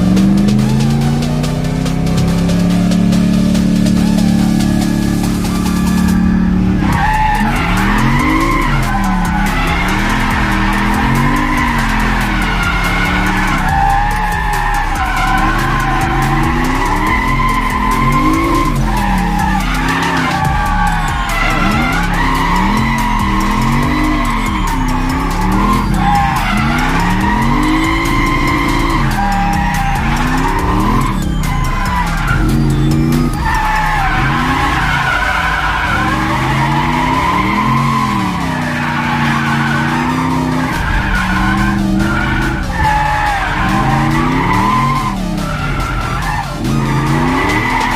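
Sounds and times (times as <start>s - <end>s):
car engine revving: 0.0s - 47.9s
tyres squealing: 0.0s - 47.9s.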